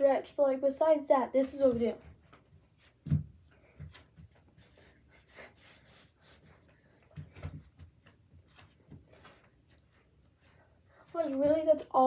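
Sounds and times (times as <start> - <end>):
light clothing rustles: 1.7 - 12.0.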